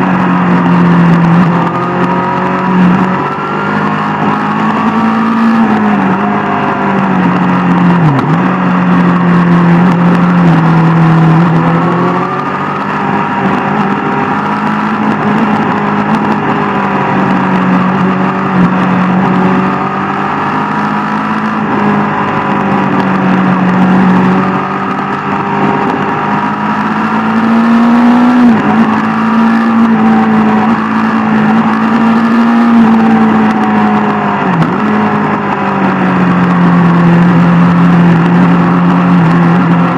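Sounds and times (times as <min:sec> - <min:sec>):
motorcycle engine running hard: 0:00.0 - 0:39.9
wind and road noise: 0:00.0 - 0:39.9.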